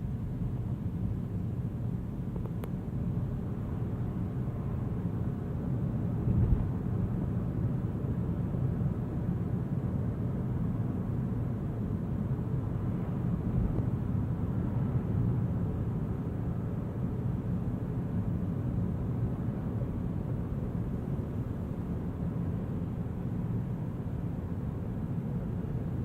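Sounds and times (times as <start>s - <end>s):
car tyres and engine rumbling: 0.0s - 26.0s.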